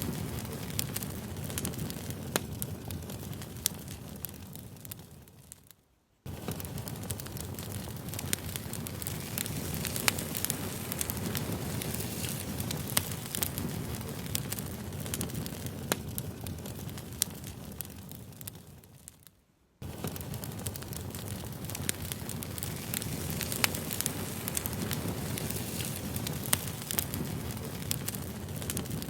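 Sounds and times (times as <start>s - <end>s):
burning wood crackling: 0.0s - 29.0s
campfire rumble and hiss: 0.0s - 29.0s.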